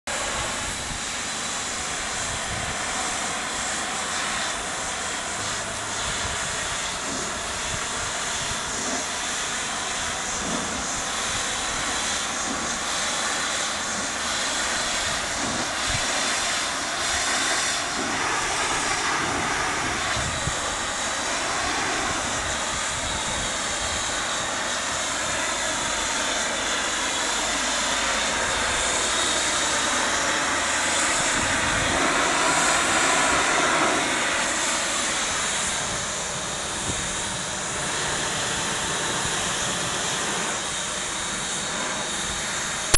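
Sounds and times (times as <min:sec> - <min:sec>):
pressure washer spray hissing: 0:00.1 - 0:42.9.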